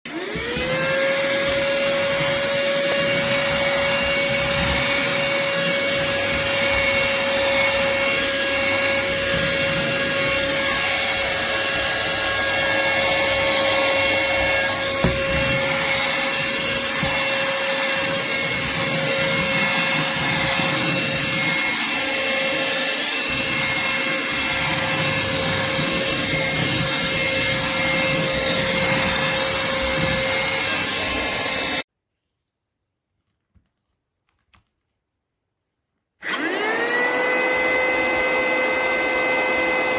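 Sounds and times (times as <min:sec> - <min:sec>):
handheld vacuum running: 0:00.1 - 0:31.9, 0:36.2 - 0:39.9.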